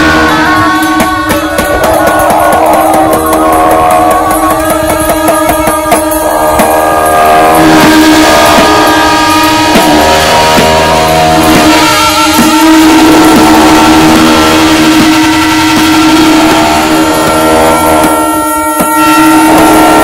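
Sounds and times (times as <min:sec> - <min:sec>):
frame drum beaten with stick: 0:00.0 - 0:20.0
reedy wind instruments droning: 0:00.0 - 0:20.0.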